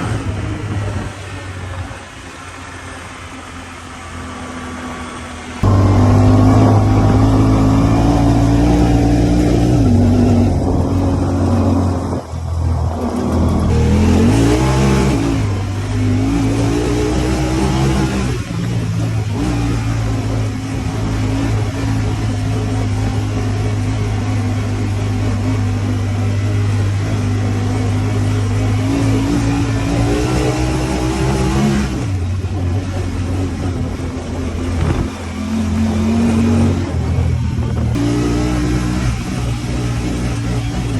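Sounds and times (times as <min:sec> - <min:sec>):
engine running under load: 0:00.0 - 0:40.9.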